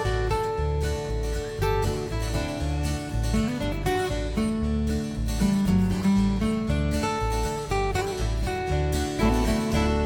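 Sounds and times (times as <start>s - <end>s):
acoustic guitar: 0.0s - 10.0s
repeating bass line: 0.0s - 10.0s.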